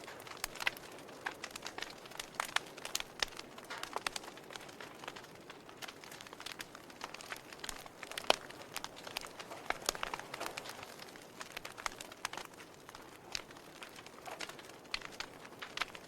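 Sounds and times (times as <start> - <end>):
fire snaps and pops: 0.0 - 16.0
wood fire crackling: 0.0 - 16.0.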